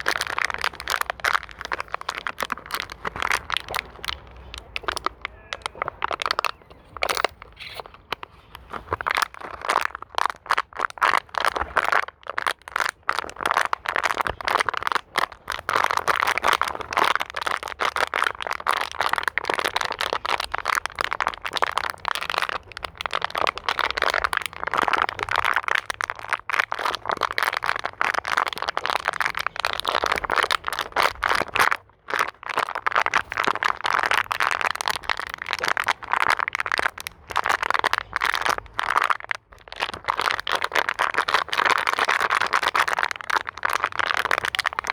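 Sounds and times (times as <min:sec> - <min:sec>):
plastic bottle crinkling: 0:00.0 - 0:44.9.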